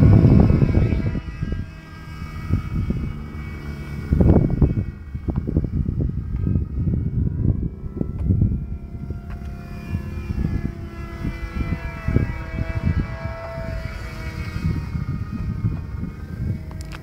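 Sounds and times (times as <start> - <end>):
model airplane engine whining: 0.0 - 17.0
wind buffeting microphone: 0.0 - 17.0.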